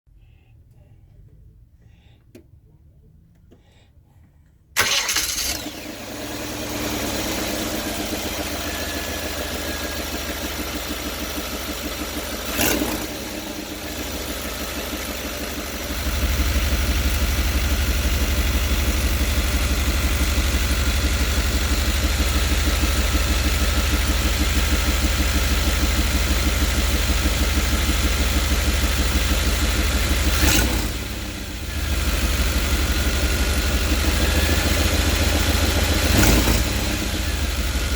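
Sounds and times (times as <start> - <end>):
engine starting and running: 4.8 - 37.9.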